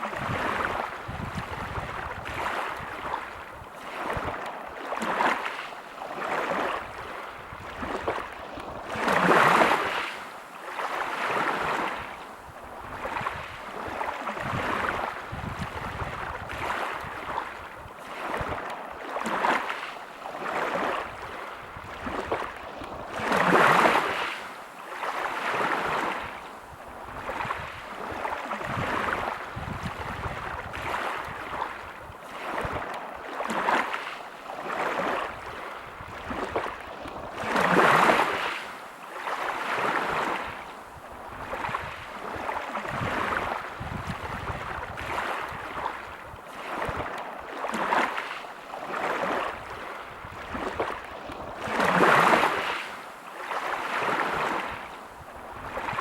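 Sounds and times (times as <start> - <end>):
large waves breaking: 0.0 - 56.0
waves washing over pebbles: 0.0 - 56.0.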